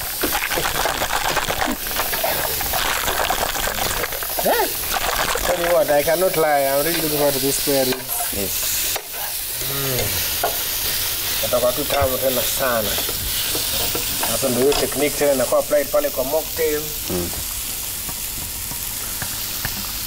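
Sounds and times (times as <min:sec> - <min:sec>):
sauce sizzling in a pan: 0:00.0 - 0:20.0.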